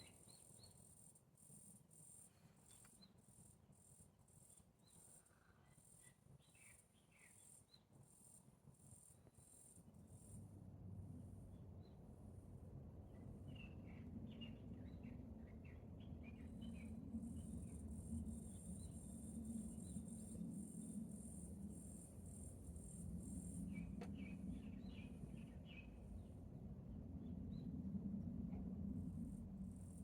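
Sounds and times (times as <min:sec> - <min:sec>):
insect drone: 0:00.0 - 0:12.4, 0:16.2 - 0:26.4, 0:27.0 - 0:30.0.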